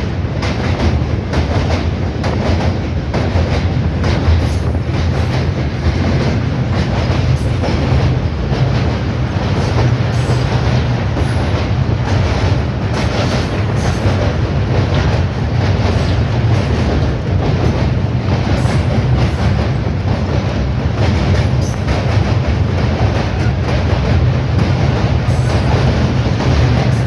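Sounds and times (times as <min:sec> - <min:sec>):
train wheels rumbling on bridge: 0:00.0 - 0:27.0.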